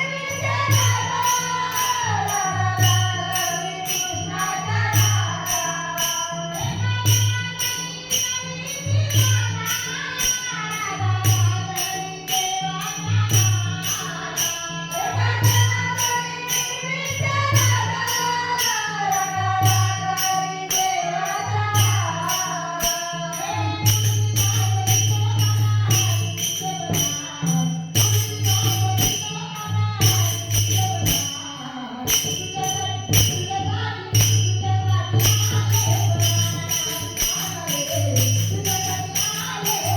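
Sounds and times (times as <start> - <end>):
jingling percussion: 0.0 - 39.9.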